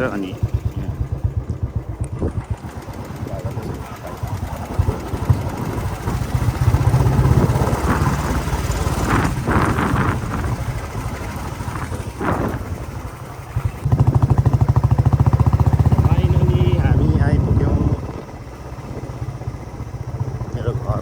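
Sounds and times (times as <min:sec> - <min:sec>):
motorcycle engine thumping: 0:00.0 - 0:21.0.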